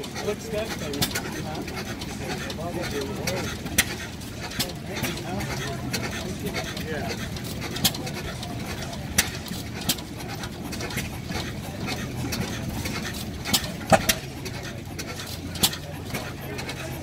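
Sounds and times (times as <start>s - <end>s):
stationary gas engine running: 0.0s - 17.0s
steady low hum: 0.0s - 17.0s.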